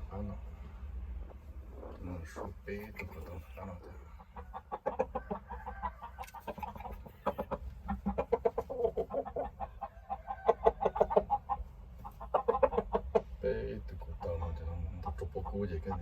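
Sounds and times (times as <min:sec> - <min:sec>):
chicken clucking: 0:01.2 - 0:16.0.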